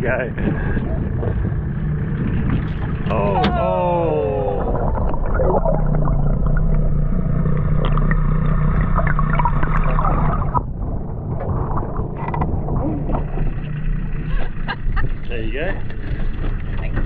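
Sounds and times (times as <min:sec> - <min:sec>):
steady low hum: 0:00.0 - 0:17.0
underwater rushing and gurgling: 0:00.0 - 0:17.0.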